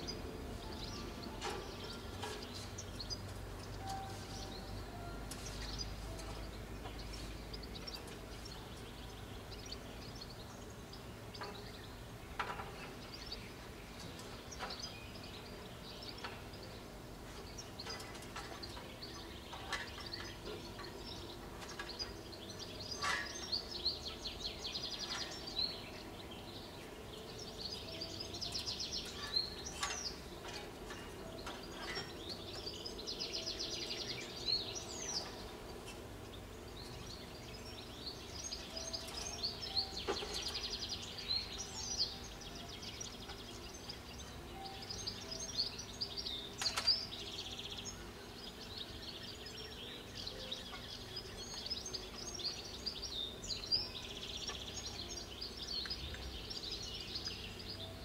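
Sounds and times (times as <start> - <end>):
small birds chirping and trilling: 0.0 - 58.0
steady outdoor hum: 0.0 - 58.0.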